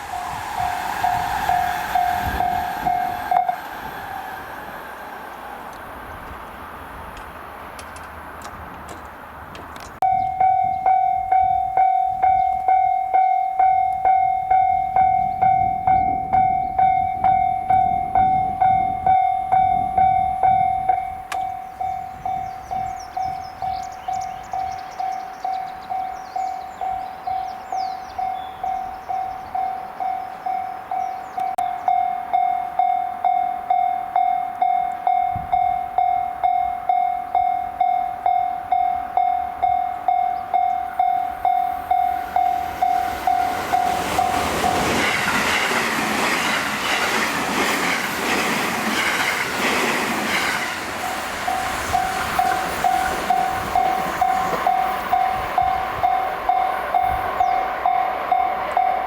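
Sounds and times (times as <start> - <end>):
level-crossing alarm ringing: 0.0 - 4.8, 10.0 - 48.0, 50.2 - 59.0
train passing at high speed: 0.0 - 59.0.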